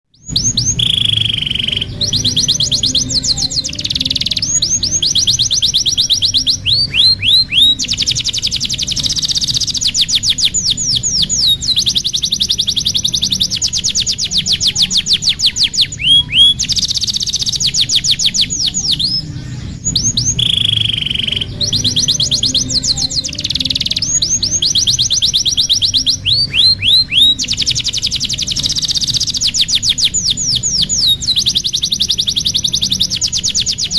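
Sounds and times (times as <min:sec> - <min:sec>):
canary singing trills: 0:00.1 - 0:33.9
steady low hum: 0:00.1 - 0:33.9.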